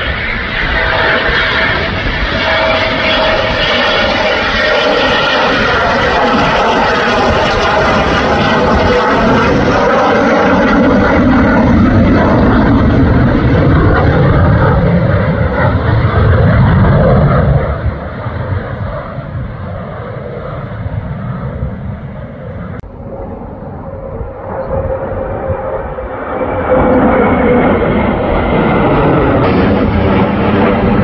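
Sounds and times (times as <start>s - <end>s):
jet engines passing: 0.0s - 31.0s.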